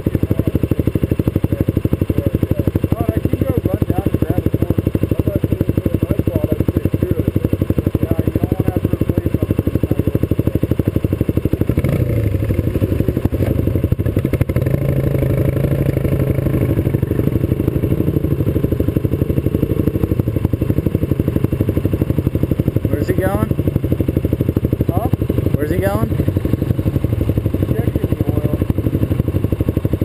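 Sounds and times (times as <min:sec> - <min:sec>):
scooter engine idling: 0:00.0 - 0:30.0
smoother engine note: 0:00.0 - 0:30.0.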